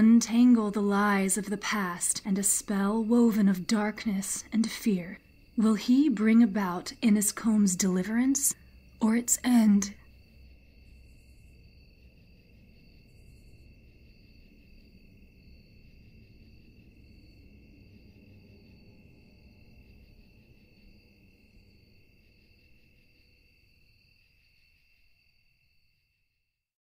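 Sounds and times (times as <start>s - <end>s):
crickets chirping: 0.0s - 26.5s.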